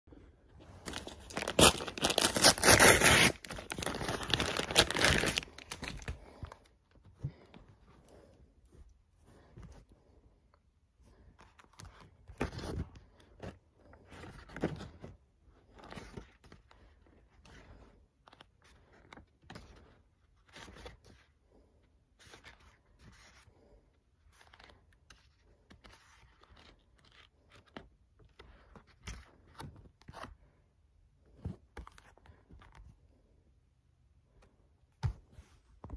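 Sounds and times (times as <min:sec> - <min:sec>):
book pages rustling: 0:00.4 - 0:10.0, 0:11.0 - 0:30.6, 0:31.2 - 0:33.1.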